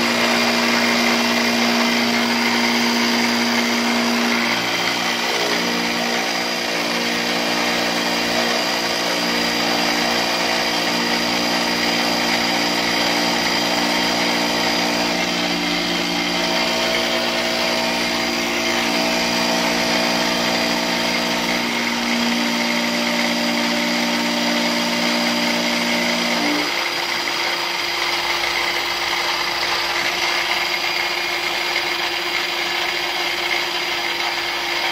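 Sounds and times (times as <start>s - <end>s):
milling machine humming: 0.0s - 34.9s.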